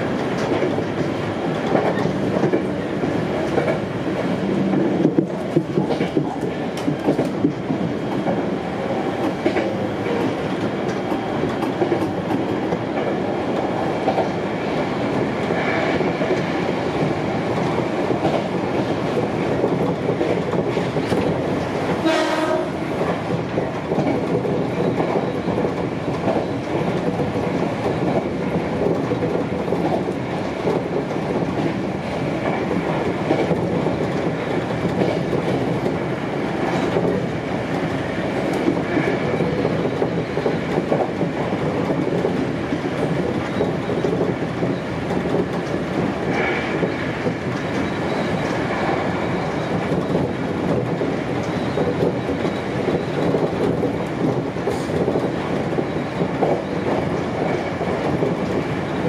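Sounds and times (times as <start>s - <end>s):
train wheels rolling on rail: 0.0s - 59.0s.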